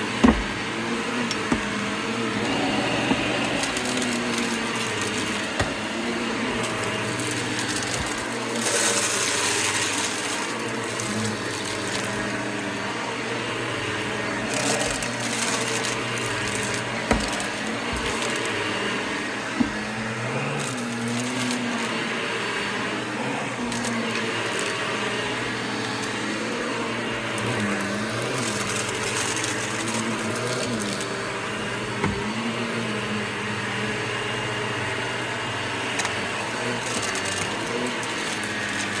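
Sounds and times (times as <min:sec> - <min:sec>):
vacuum cleaner running over carpet: 0:00.0 - 0:39.0.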